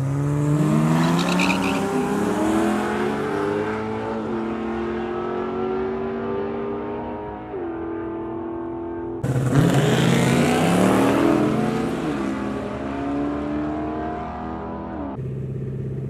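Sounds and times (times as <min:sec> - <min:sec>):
race car engine revving: 0:00.0 - 0:15.2.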